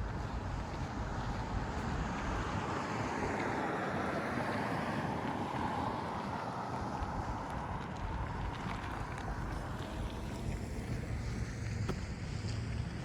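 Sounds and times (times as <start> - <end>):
traffic passing: 0.0 - 13.0
wind on microphone: 0.0 - 13.0.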